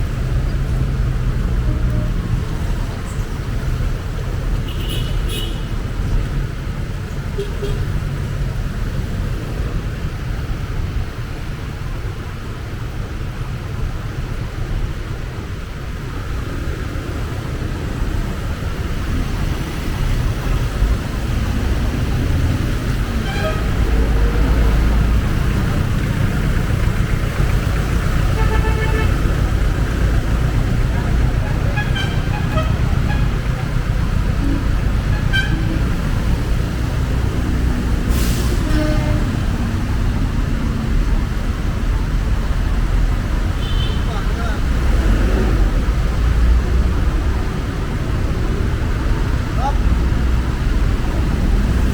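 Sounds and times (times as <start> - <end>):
vehicle approaching: 0.0 - 5.1, 5.7 - 51.9
road traffic rumble: 0.0 - 51.9.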